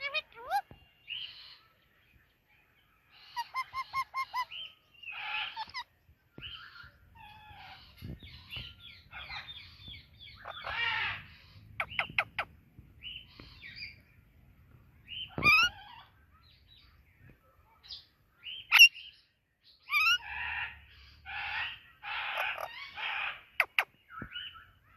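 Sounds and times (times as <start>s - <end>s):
parakeets chirping and squawking: 0.0s - 1.7s, 3.1s - 17.0s, 19.8s - 24.9s.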